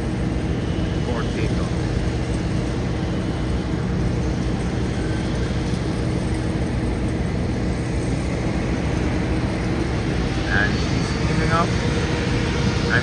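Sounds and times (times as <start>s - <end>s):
jet engines idling: 0.0s - 13.0s.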